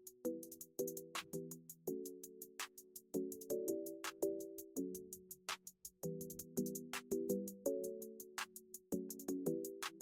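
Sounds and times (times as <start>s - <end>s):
crisp high ticks beat: 0.0s - 10.0s.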